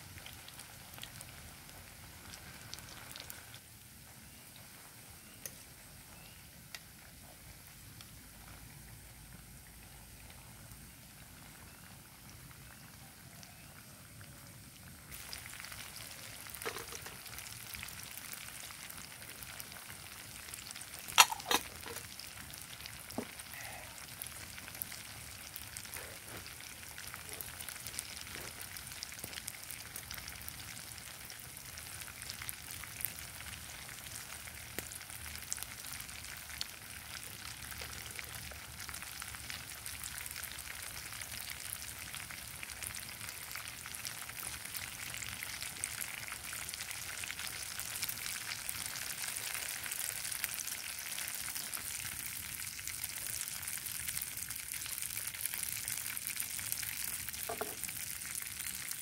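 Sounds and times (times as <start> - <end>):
food deep-frying in oil: 0.0 - 59.0.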